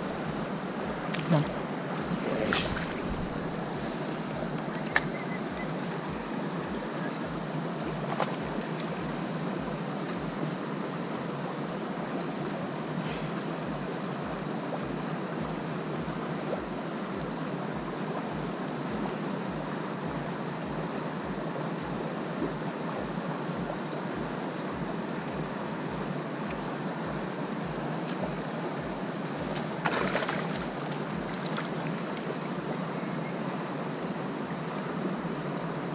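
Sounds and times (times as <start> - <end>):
river rushing over shallows: 0.0 - 35.9.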